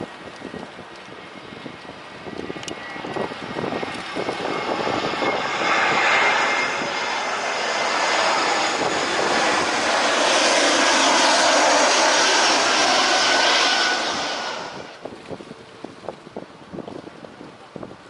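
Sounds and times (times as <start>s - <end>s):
jet airliner engine roar: 0.0s - 18.0s.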